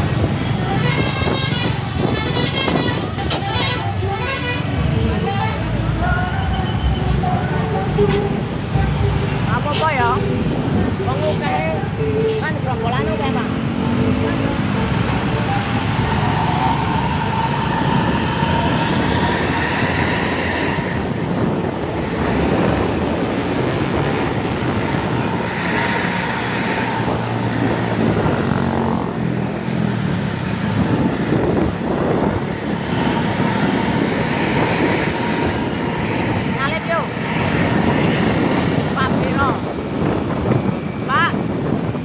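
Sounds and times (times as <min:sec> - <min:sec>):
large vehicles passing: 0:00.0 - 0:42.0.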